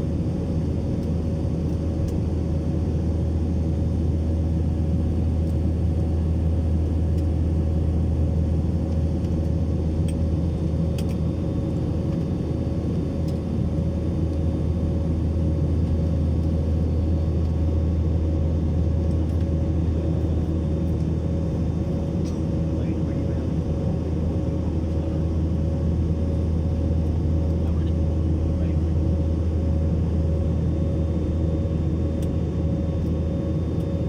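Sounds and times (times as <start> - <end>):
airplane drone: 0.0 - 34.0.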